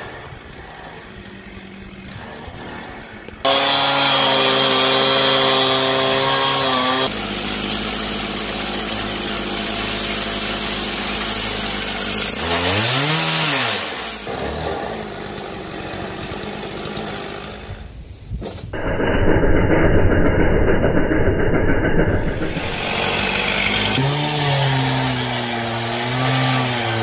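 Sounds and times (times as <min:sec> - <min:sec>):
chainsaw cutting wood: 0:00.0 - 0:18.0, 0:22.0 - 0:27.0.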